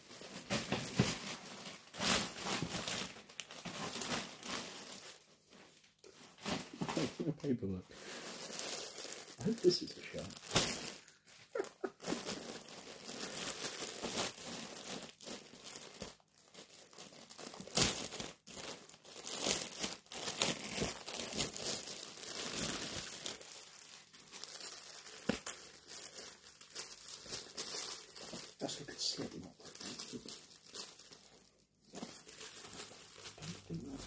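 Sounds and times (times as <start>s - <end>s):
plastic bag crinkling and tearing: 0.0s - 34.0s.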